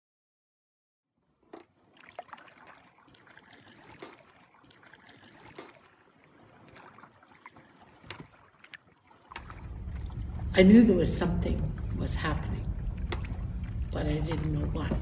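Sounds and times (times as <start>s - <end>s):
small water splashes: 1.2s - 15.0s
water gently lapping: 1.2s - 15.0s.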